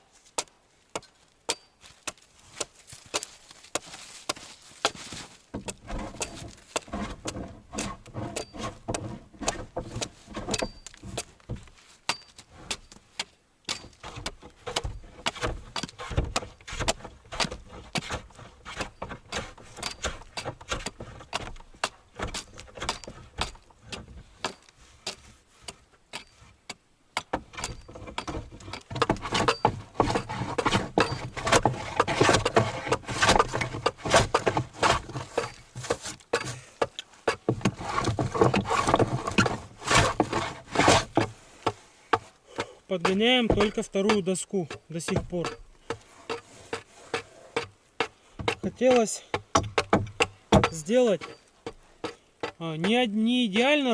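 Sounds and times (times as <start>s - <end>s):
hand tools scraping wood: 0.1s - 53.9s.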